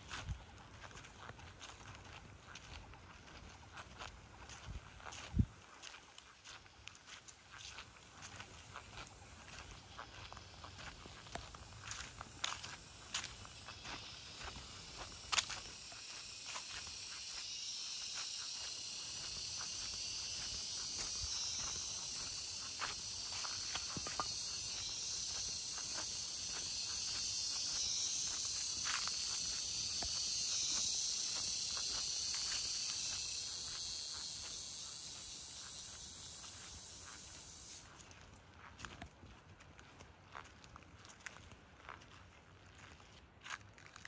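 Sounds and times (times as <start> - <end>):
cicadas buzzing: 0.0 - 43.9
footsteps on dry leaves: 0.0 - 44.0.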